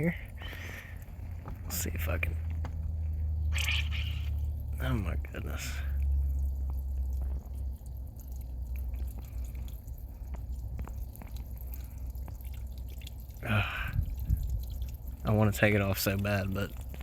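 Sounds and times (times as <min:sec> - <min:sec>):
steady low rumble: 0:00.0 - 0:17.0
water dripping and trickling: 0:00.0 - 0:17.0.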